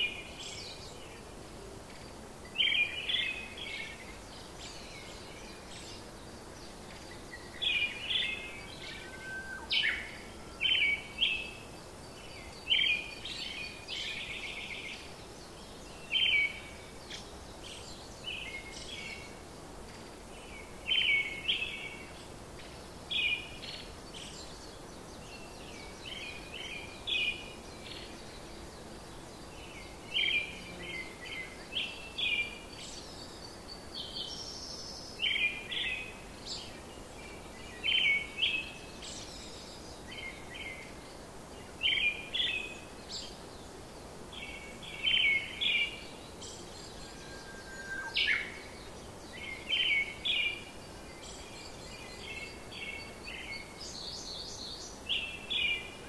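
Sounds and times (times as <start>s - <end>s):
small birds chirping: 0.0s - 56.0s
steady hiss: 0.0s - 56.0s.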